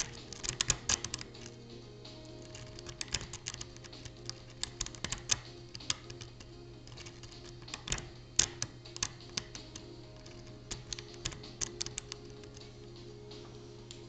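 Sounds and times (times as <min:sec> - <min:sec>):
lock pick clicking on pins: 0:00.0 - 0:13.0.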